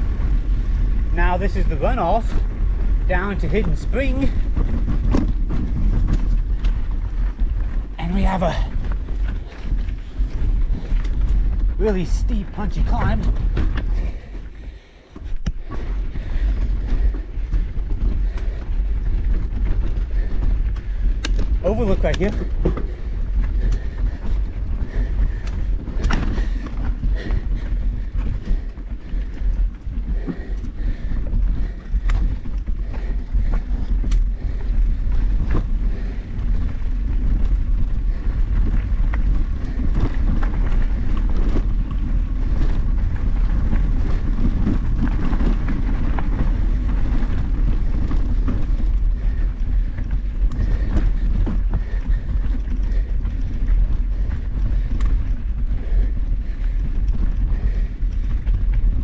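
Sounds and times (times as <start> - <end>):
bike knocking and rattling: 0.0 - 59.0
tyres rumbling on trail: 0.0 - 59.0
wind on microphone: 0.0 - 59.0.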